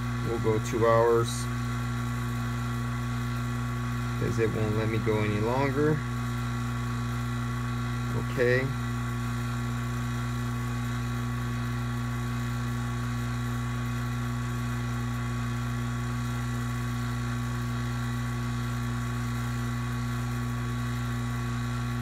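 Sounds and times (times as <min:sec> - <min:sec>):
vacuum pump humming: 0:00.0 - 0:22.0.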